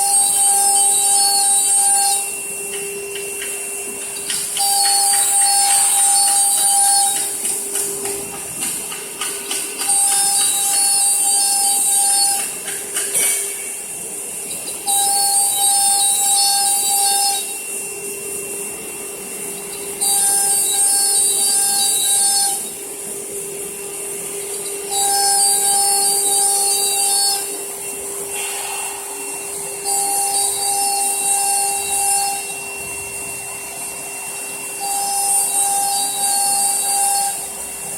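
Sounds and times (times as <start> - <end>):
router spindle whine: 0.0 - 37.9.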